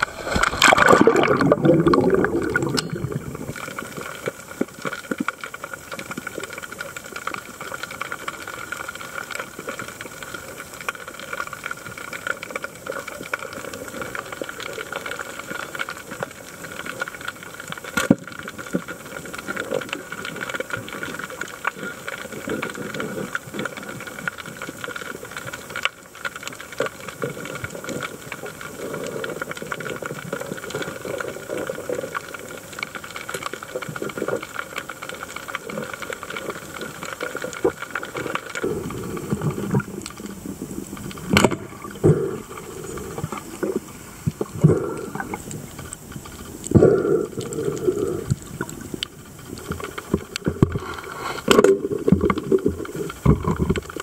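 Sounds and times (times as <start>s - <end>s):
crackle of small clicks underwater: 0.0s - 54.0s
faint steady hum: 0.0s - 54.0s
water hiss: 0.0s - 54.0s.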